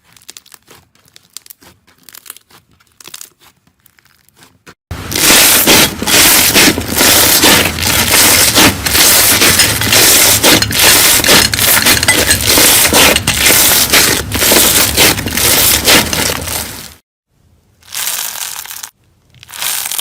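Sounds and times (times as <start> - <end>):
crunchy slime crackling: 0.0 - 4.5, 5.1 - 17.0, 17.8 - 20.0.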